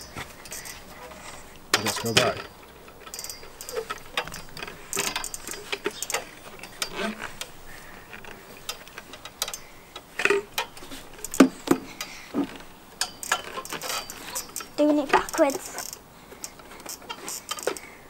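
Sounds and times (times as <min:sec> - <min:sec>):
metal swing frame clicking: 0:00.0 - 0:18.0.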